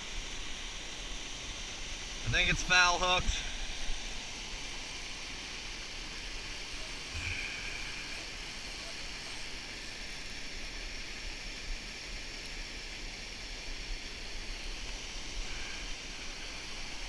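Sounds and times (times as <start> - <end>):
water pouring over dam spillway: 0.0 - 17.0.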